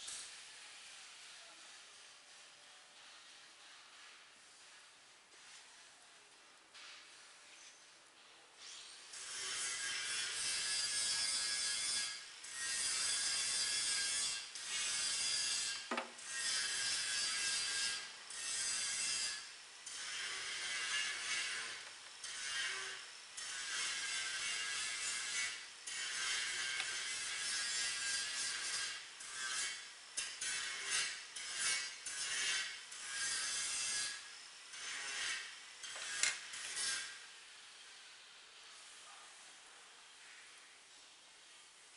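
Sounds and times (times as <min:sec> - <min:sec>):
rubbing and scraping of tools: 0:00.0 - 0:38.0.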